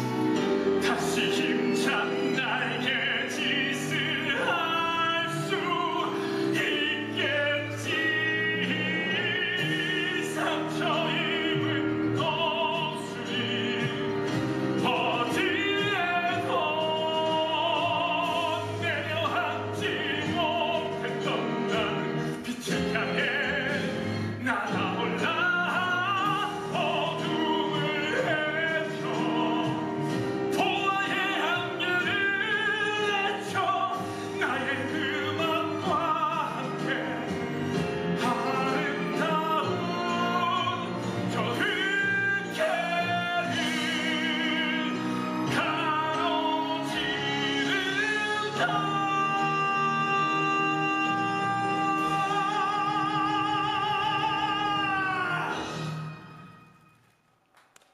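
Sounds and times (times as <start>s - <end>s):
man singing dramatic solo: 0.0s - 56.3s
orchestral backing music: 0.0s - 57.9s.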